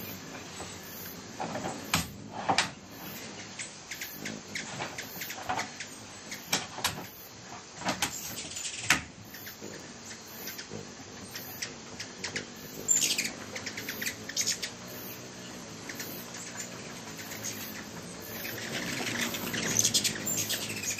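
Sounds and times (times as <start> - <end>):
hummingbird chip calls: 2.9 - 7.4, 8.1 - 20.9.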